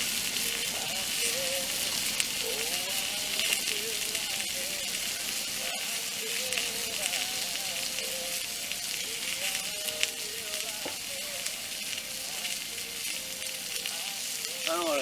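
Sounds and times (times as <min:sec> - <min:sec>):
faint radio music: 0:00.0 - 0:15.0
steak sizzling in a frying pan: 0:00.0 - 0:15.0.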